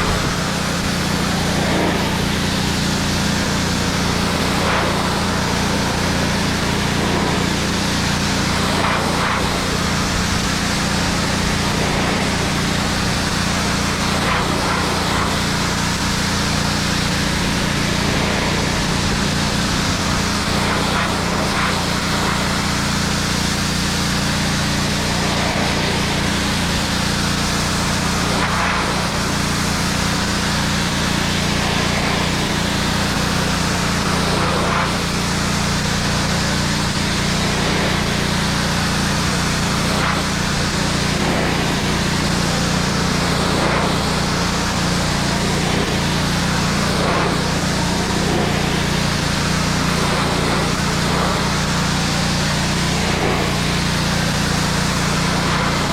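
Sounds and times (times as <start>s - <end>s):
pressure washer motor humming: 0.0s - 55.9s
water spray hissing on wood: 0.0s - 55.9s.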